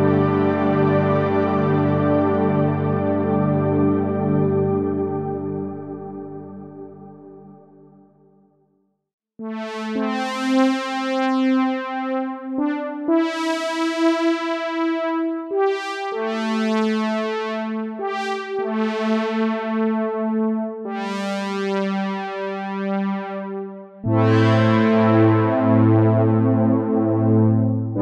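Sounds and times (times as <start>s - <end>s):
synthesizer chords: 0.0s - 8.1s, 9.4s - 21.1s, 23.5s - 28.0s.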